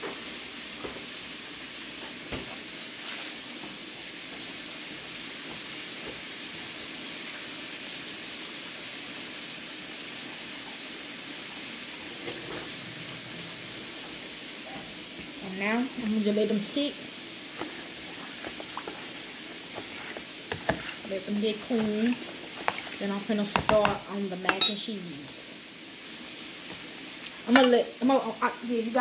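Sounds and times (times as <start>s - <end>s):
gas burner hiss: 0.0s - 29.0s.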